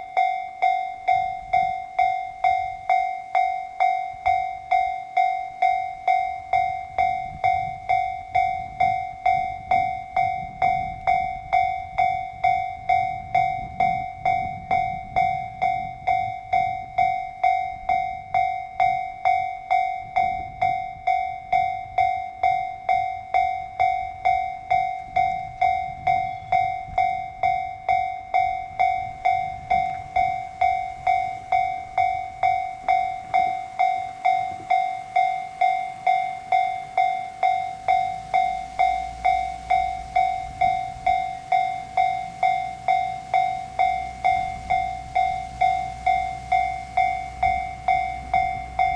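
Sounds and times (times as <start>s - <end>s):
diesel train rumble: 0.0s - 48.9s
level crossing warning bell: 0.0s - 48.9s.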